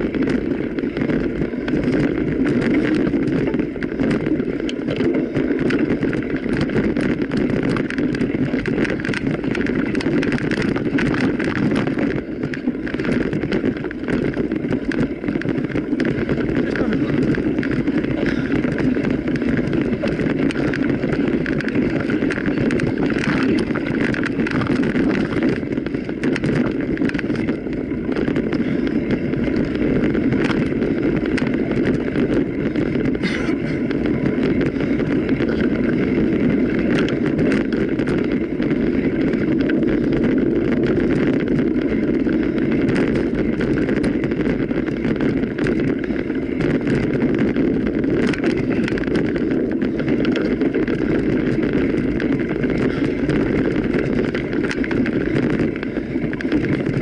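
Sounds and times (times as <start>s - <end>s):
bike clicks and rattles: 0.0s - 57.0s
bike tyres rolling: 0.0s - 57.0s
wind noise on microphone: 0.0s - 57.0s.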